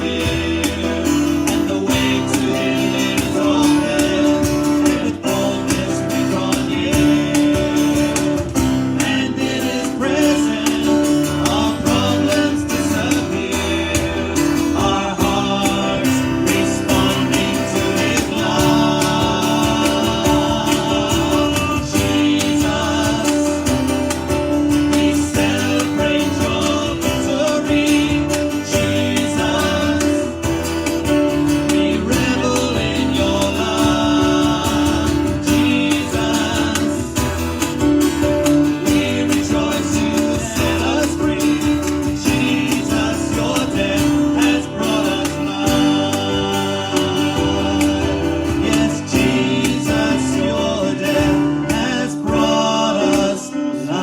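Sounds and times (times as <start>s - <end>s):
acoustic guitar strumming: 0.0s - 54.0s
person singing: 0.0s - 54.0s.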